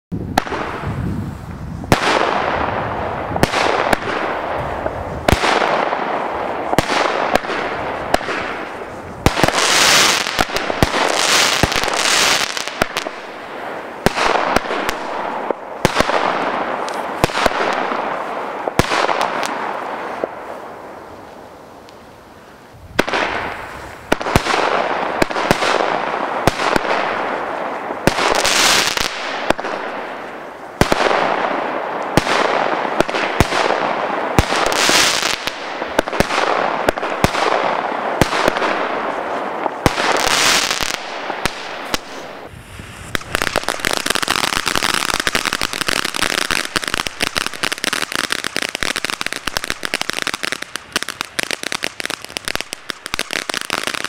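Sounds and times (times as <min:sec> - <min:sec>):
firework bangs: 0:00.2 - 0:54.0
firework hiss: 0:00.3 - 0:54.0.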